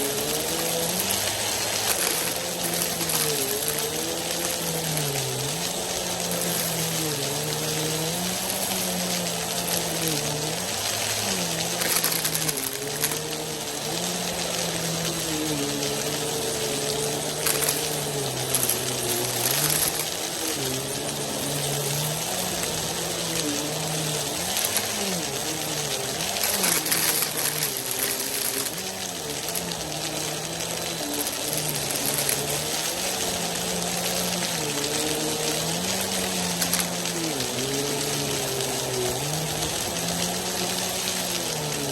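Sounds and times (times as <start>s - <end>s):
dry food rattling up a vacuum: 0.0s - 41.9s
vacuum cleaner motor hum: 0.0s - 41.9s.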